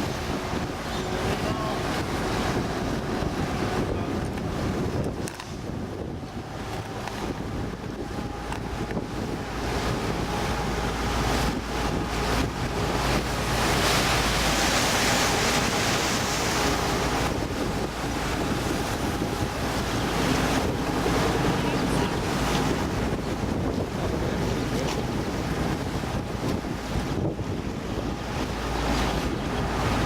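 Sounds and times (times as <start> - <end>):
motorboat engine hum: 0.0 - 30.0
water rushing past hull: 0.0 - 30.0
wind buffeting microphone: 0.0 - 30.0.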